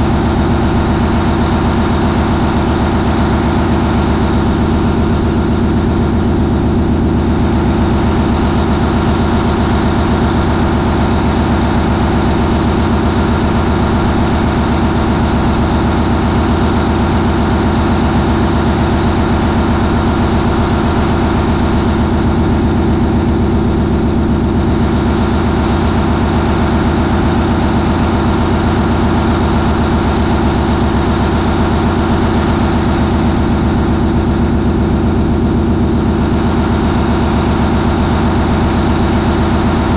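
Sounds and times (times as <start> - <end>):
diesel engine deep drone: 0.0 - 39.9.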